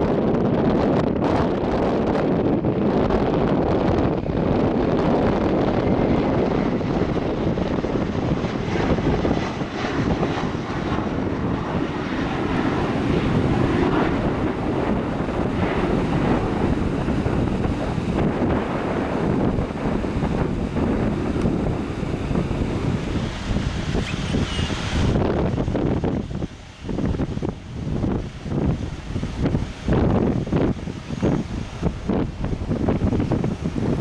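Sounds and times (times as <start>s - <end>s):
jet engines at takeoff power: 0.0s - 34.0s
wind buffeting microphone: 0.0s - 34.0s.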